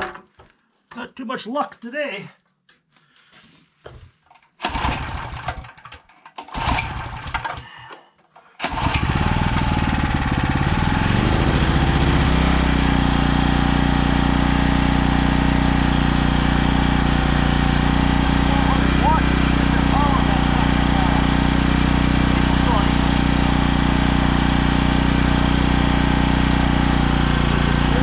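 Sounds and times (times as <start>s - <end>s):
portable generator starting and running: 4.6s - 7.7s, 8.6s - 28.0s.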